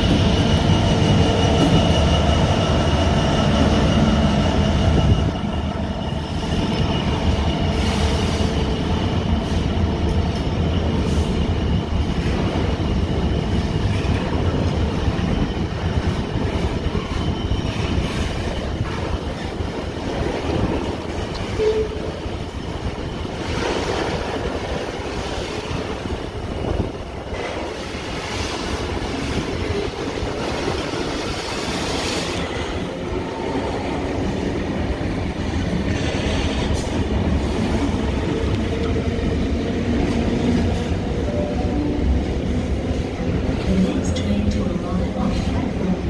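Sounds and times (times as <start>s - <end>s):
train wheels rolling on rails: 0.0s - 46.0s.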